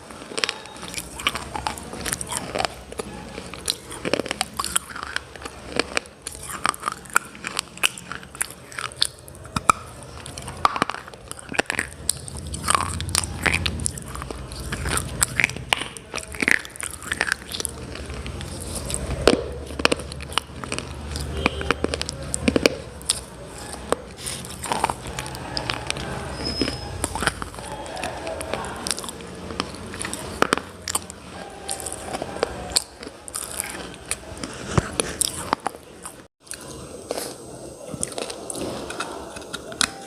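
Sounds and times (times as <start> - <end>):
crunching while chewing: 0.0 - 40.0.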